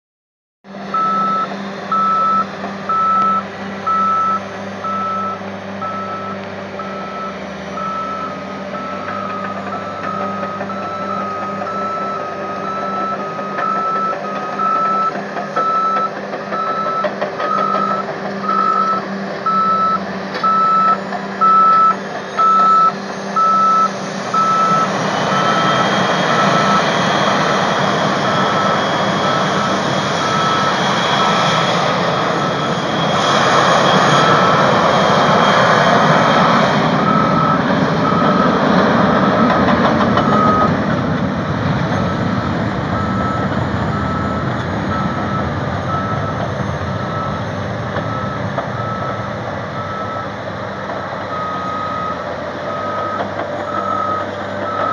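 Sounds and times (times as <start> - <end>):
diesel engine running: 0.7 - 54.9
jet engine whine and roar: 0.7 - 54.9
backup alarm beeping: 0.9 - 40.9, 41.9 - 50.4, 51.3 - 54.9.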